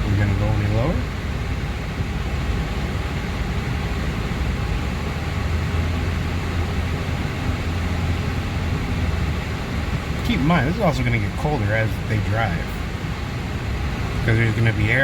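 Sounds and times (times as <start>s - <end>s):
car engine idling hum: 0.0s - 15.0s
fan noise rushing: 0.0s - 15.0s.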